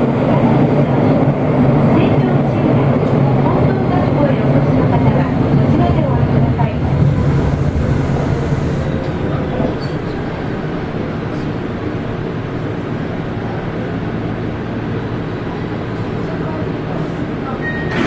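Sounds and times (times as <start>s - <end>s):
subway train rumbling in tunnel: 0.0s - 18.0s.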